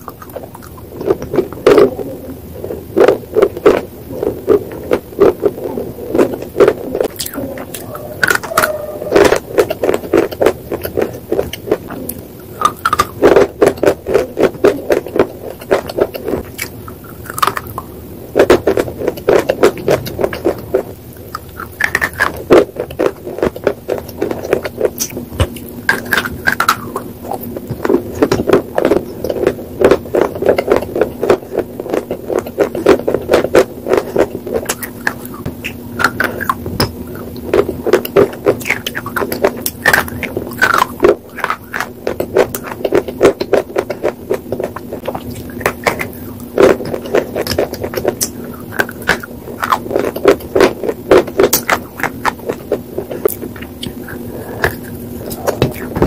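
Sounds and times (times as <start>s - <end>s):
crisp crunching of chewing: 0.0s - 56.0s.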